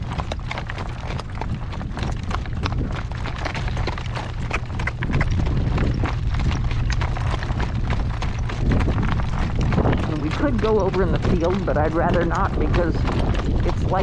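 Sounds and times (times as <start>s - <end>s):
horse hooves clip-clopping: 0.0s - 14.0s
steady low rumble: 0.0s - 14.0s.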